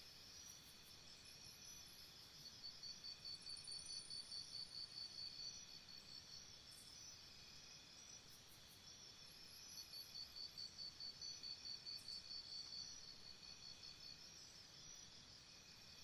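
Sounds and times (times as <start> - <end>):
pulsing cricket chirp: 0.0 - 16.0
crickets chirring: 0.1 - 16.0.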